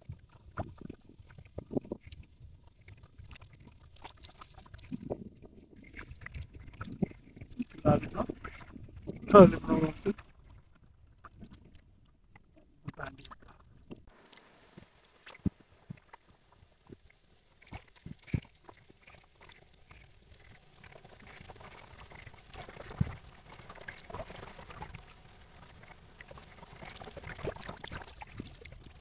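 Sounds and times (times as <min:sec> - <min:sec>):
seawater lapping and sloshing: 0:00.1 - 0:29.0.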